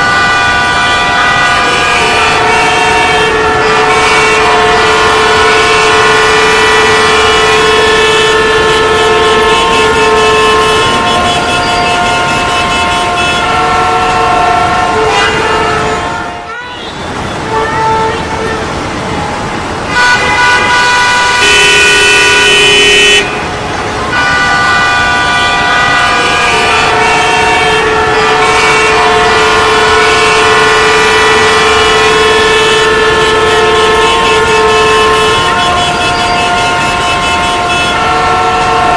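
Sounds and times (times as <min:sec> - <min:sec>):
vehicle horns honking: 0:00.0 - 0:38.9.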